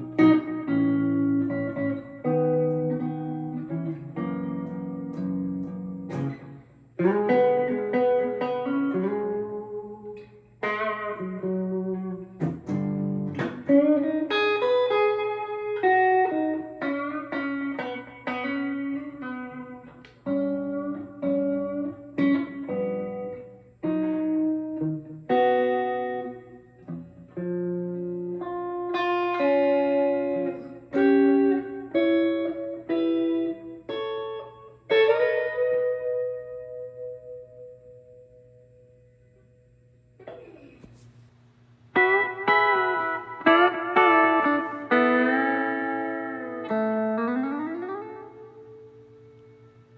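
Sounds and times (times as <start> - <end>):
electric guitar chords: 0.0 - 41.0, 41.8 - 49.9.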